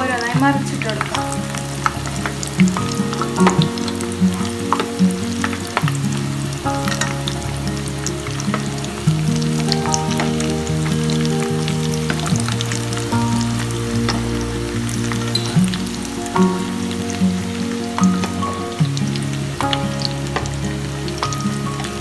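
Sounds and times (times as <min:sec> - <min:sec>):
deep-frying sizzle with crackles: 0:00.0 - 0:22.0
held musical notes: 0:00.0 - 0:22.0.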